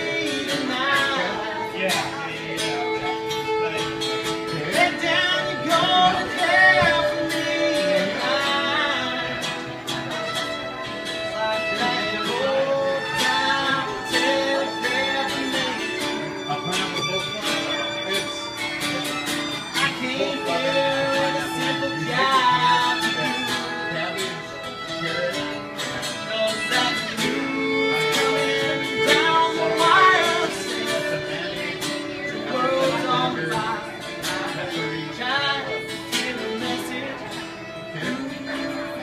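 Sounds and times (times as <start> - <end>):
fiddle melody: 0.0 - 39.0
person singing: 0.0 - 39.0
strummed acoustic guitar: 0.0 - 39.0.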